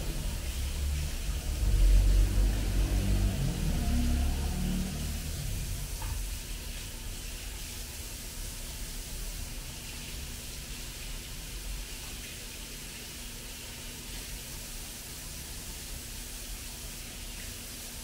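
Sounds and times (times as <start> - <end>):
faint constant hum: 0.0 - 18.0.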